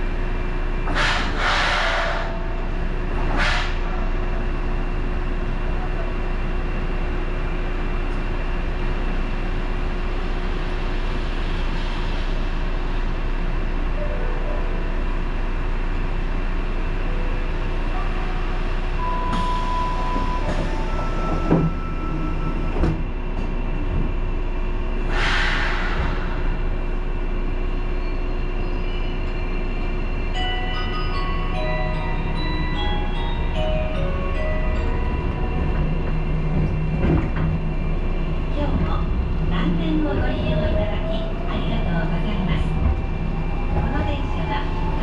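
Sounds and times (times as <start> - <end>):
railcar equipment hum: 0.0 - 45.0.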